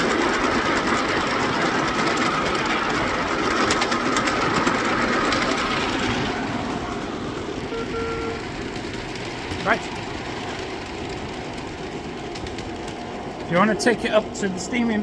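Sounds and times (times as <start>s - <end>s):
wheels clicking over rail joints: 0.0s - 15.0s.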